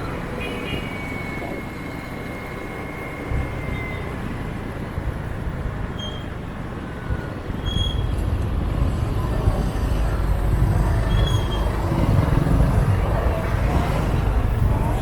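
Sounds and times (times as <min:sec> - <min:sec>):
motorbikes and cars passing: 0:00.0 - 0:15.0
traffic rumble: 0:00.0 - 0:15.0.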